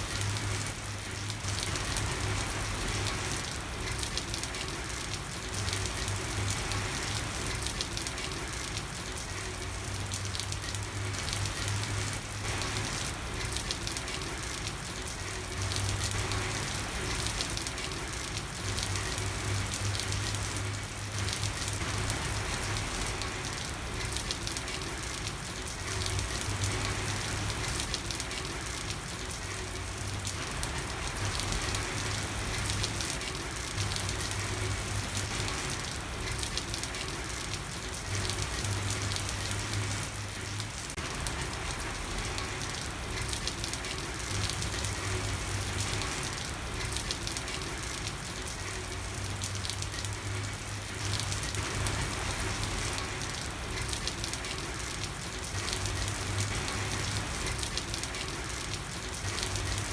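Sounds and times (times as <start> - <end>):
rain falling on street: 0.0 - 59.9.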